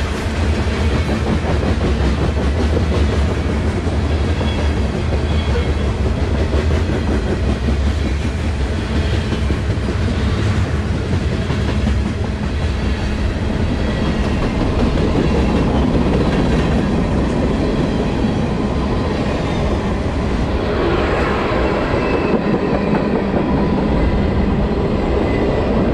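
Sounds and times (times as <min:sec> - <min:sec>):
freight train rumbling past: 0:00.0 - 0:25.9.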